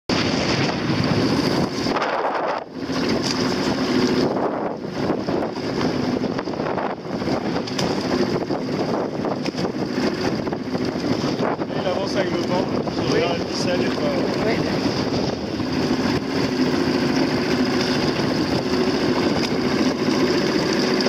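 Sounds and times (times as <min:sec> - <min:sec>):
wind rushing over microphone: 0:00.1 - 0:20.5
choppy sea waves: 0:00.1 - 0:21.0.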